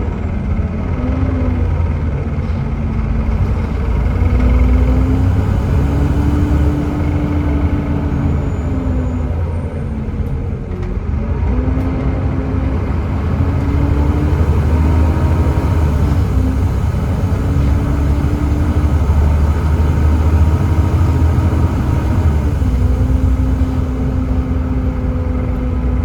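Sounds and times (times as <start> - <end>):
bus diesel engine rumbling: 0.0 - 26.0.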